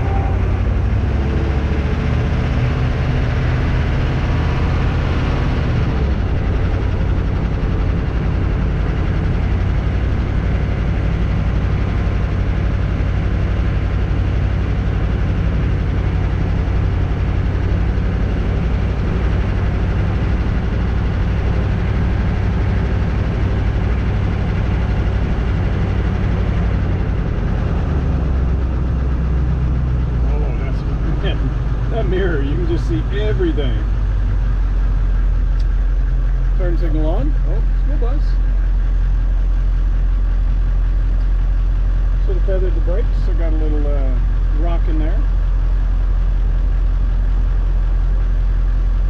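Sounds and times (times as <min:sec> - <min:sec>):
diesel engine drone inside cab: 0:00.0 - 0:49.0.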